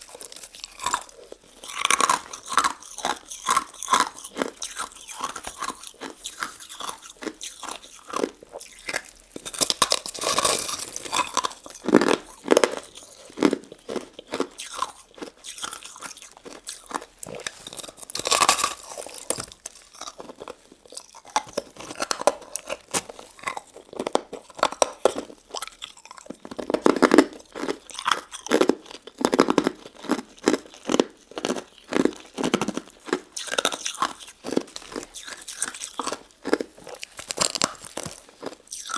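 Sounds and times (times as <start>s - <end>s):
crunching frozen dessert: 0.0s - 38.9s.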